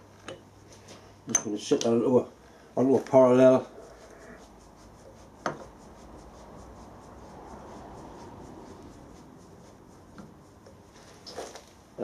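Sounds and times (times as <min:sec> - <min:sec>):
faint rubbing and handling: 0:02.4 - 0:12.0.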